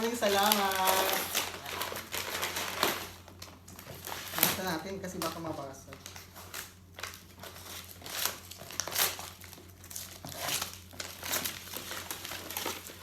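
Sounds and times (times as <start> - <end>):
gift packaging crinkling: 0.0 - 13.0.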